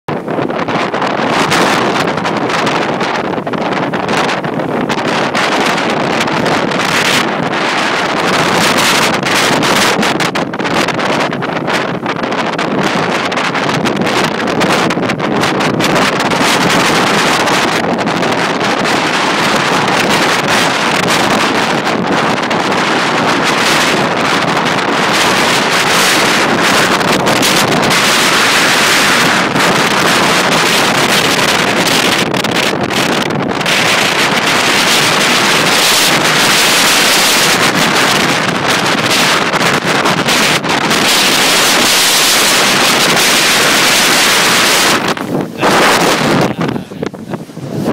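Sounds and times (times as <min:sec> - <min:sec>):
waves breaking on shore: 0:00.1 - 0:47.9
wind buffeting microphone: 0:00.1 - 0:47.9.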